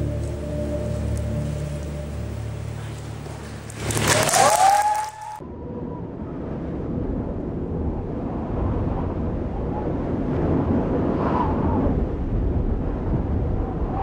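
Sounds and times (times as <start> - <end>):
low rushing noise: 0.0 - 14.0.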